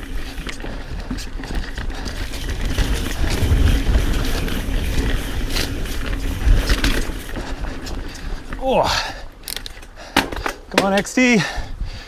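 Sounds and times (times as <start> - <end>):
tyres rolling on dirt: 0.0 - 11.5
bike chain rattling: 0.0 - 11.6
wind buffeting microphone: 0.0 - 12.0.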